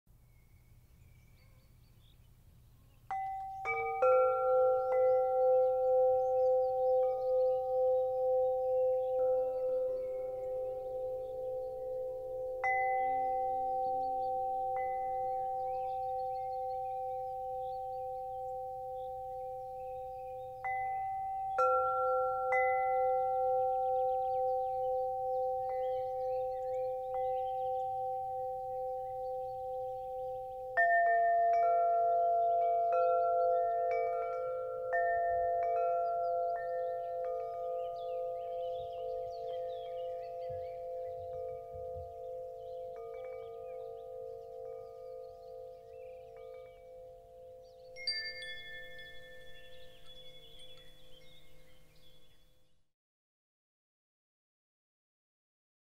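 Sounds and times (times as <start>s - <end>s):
faint bird chirps: 0.1s - 22.2s, 22.9s - 30.8s, 32.4s - 52.8s
metal chimes ringing: 3.1s - 52.5s.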